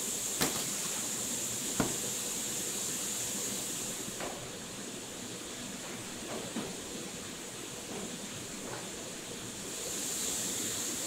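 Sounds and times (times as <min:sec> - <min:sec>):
factory background hiss: 0:00.0 - 0:11.0.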